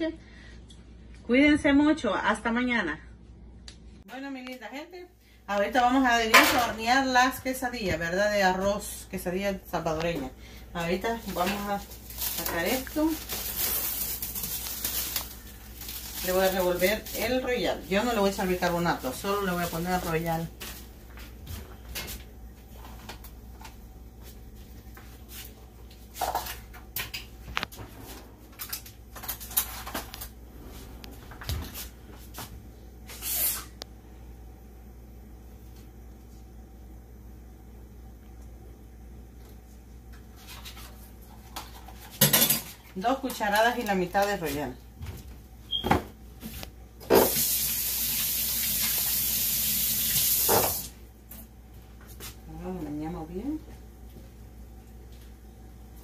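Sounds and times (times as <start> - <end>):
low steady hum: 0.0 - 47.1, 50.9 - 56.0.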